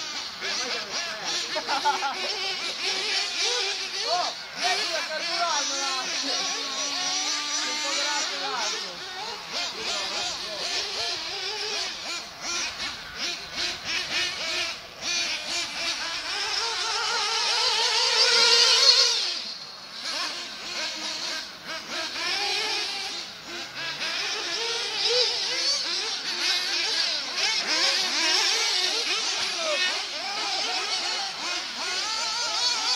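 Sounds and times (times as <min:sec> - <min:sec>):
small model engines whining: 0:00.0 - 0:32.9.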